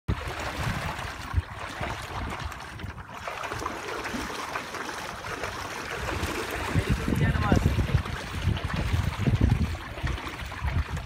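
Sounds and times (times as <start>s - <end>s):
wind rumble on microphone: 0.1s - 4.3s, 5.1s - 11.0s
paddle wheel churning water: 0.1s - 11.0s.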